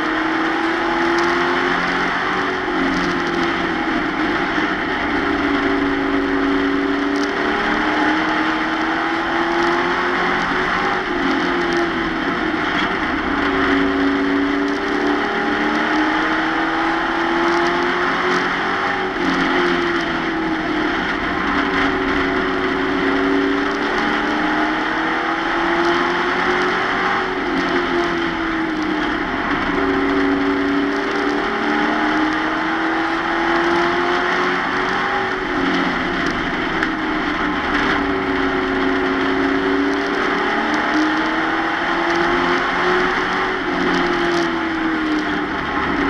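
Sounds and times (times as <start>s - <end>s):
road and wind noise: 0.0s - 46.0s
truck engine accelerating: 0.0s - 46.0s.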